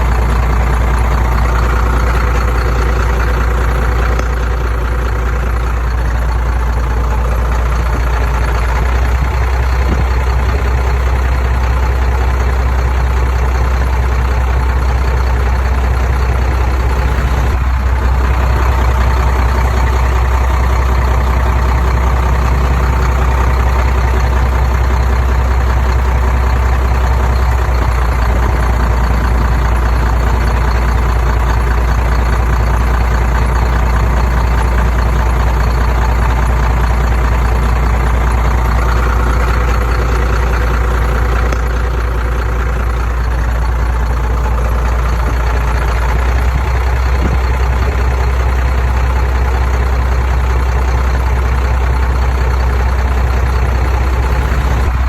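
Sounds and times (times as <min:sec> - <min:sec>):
construction machine engine droning: 0:00.0 - 0:55.0.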